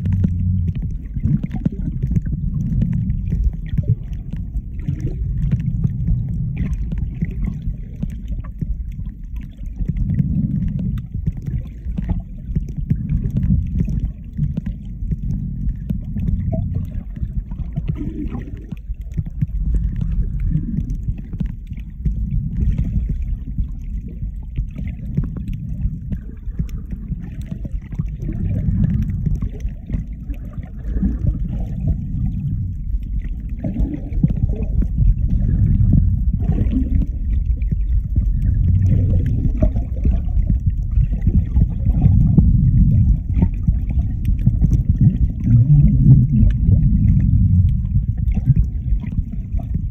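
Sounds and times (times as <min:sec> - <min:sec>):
faint crackling: 0:00.0 - 0:49.9
muffled underwater rumbling and sloshing: 0:00.0 - 0:49.9.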